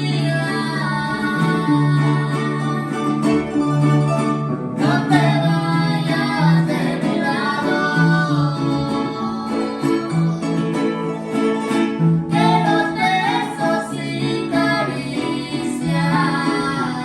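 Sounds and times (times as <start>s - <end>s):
person singing: 0.0s - 3.7s, 4.8s - 11.4s, 12.3s - 17.0s
plucked acoustic guitar: 0.0s - 17.0s.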